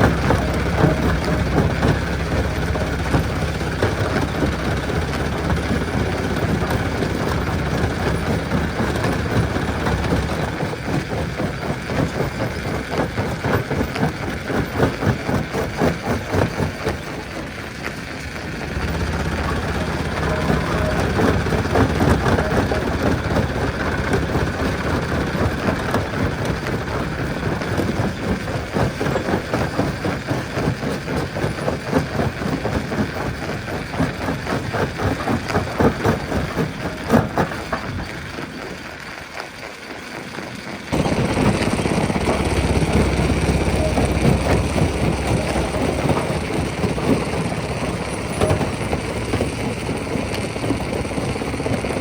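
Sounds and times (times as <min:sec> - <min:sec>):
rock crusher rumbling: 0:00.0 - 0:52.0.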